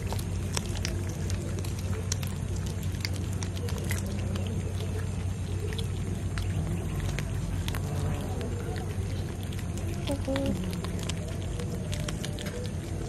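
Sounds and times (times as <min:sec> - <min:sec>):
kitten chewing fish: 0:00.0 - 0:13.0
steady low hum: 0:00.0 - 0:13.0.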